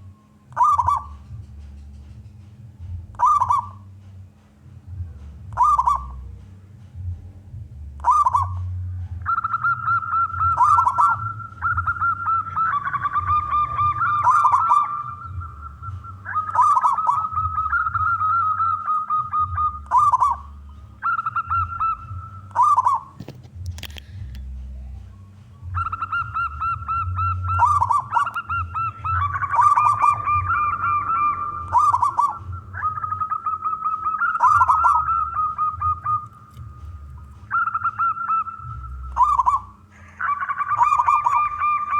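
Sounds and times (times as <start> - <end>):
dove cooing: 0.0 - 7.2, 7.9 - 41.9
low steady hum: 0.0 - 41.9.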